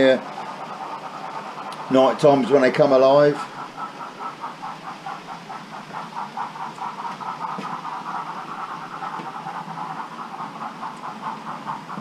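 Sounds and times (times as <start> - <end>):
model trains clattering: 0.0 - 12.0.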